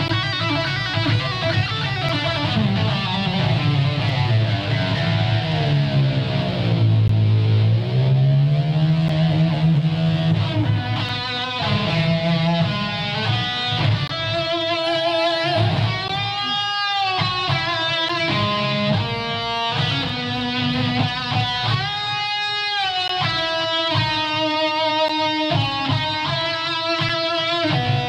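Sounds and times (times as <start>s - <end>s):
bass guitar: 0.0s - 28.0s
drums: 0.0s - 28.0s
electric guitar bending notes: 0.0s - 28.0s.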